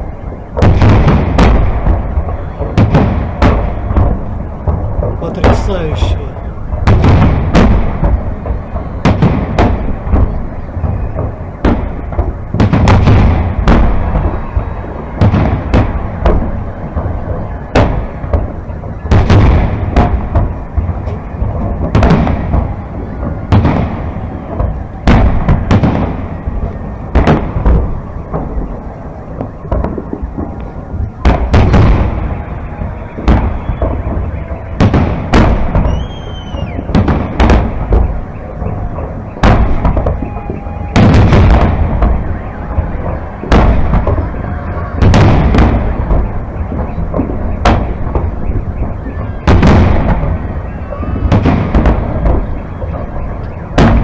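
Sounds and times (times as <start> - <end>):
fireworks booming: 0.0 - 54.0.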